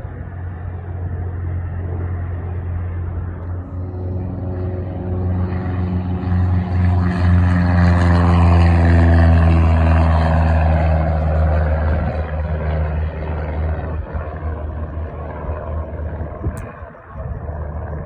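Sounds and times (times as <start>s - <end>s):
propeller airplane passing: 0.0s - 18.0s.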